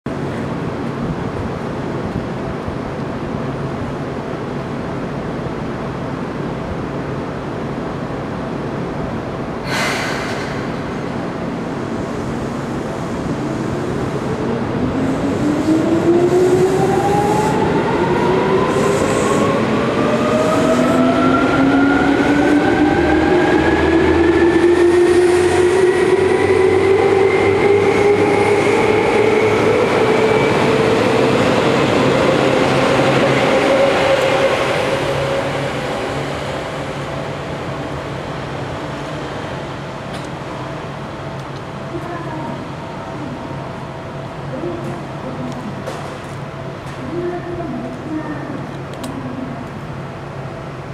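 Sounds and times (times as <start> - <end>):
rail and wheel rumble: 0.0 - 50.9.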